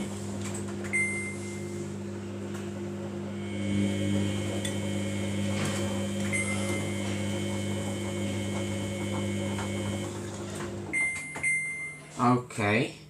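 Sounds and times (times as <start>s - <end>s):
washing machine humming: 0.0s - 12.8s.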